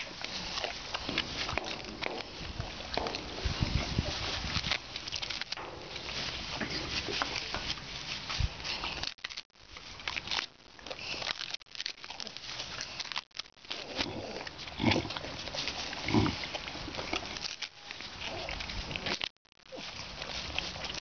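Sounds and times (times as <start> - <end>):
crackling rustle: 0.0 - 21.0.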